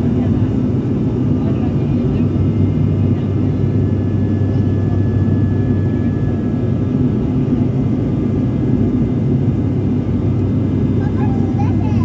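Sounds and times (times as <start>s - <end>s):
propeller engines droning in cabin: 0.0s - 12.0s.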